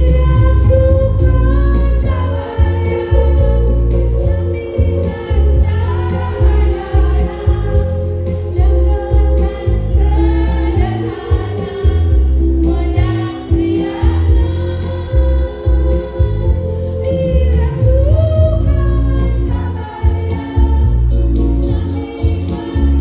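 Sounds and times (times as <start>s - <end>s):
backing music with pulsing bass: 0.0s - 23.0s
choir singing: 0.0s - 23.0s.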